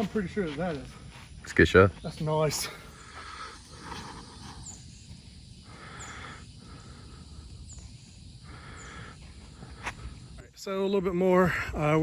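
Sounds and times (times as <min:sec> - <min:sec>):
bird chirping: 0:00.0 - 0:11.3.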